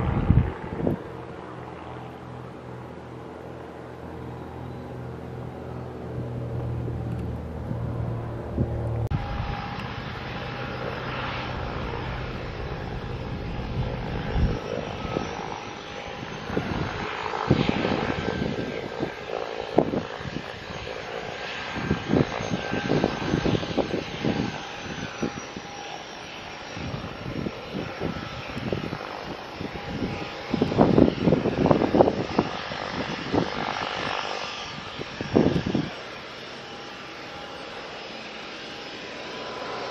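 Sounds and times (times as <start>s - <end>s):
distant turboprop engines running: 0.0s - 39.9s.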